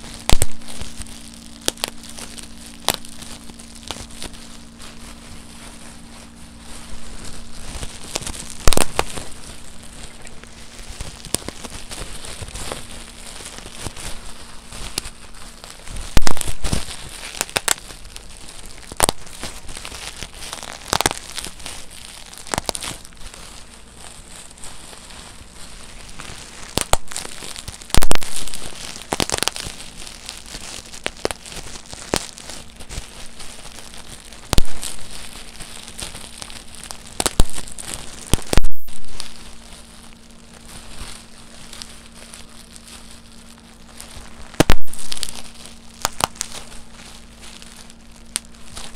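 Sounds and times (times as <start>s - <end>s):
bubble wrap bubbles popping: 0.0s - 48.9s
bubble wrap crinkling: 0.0s - 48.9s.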